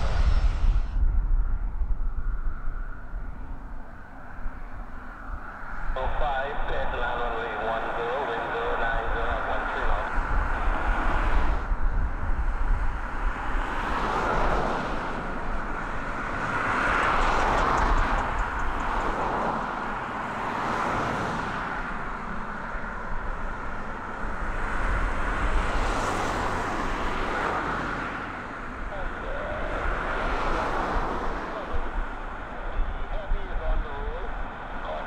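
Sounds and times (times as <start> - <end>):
propeller plane taking off: 0.0 - 35.0.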